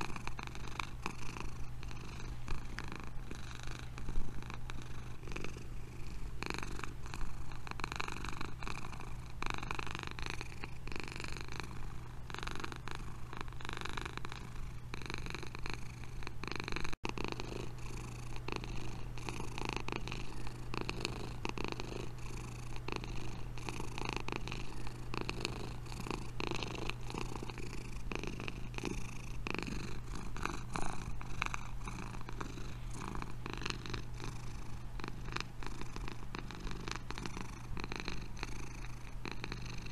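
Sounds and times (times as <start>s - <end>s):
cats purring: 0.0s - 39.9s.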